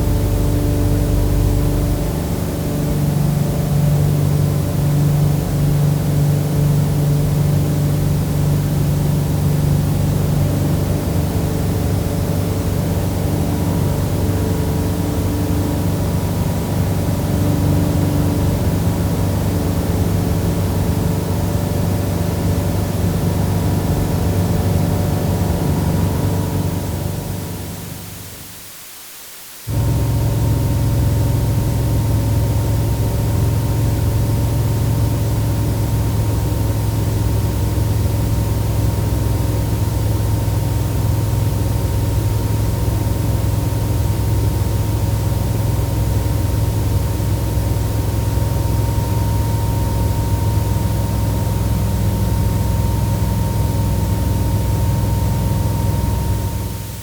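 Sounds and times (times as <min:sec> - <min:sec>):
aircraft drone with whine and hiss: 0:00.0 - 0:28.7, 0:29.6 - 0:57.0.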